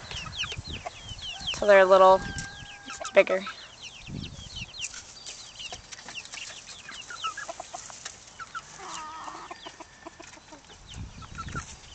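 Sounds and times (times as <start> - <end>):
chicks peeping: 0.0 - 11.9
chicken clucking: 0.1 - 11.8.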